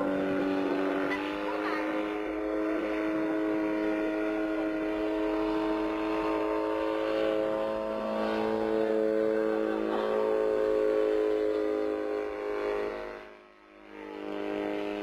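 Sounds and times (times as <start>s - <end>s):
helicopter engine humming: 0.0s - 15.0s.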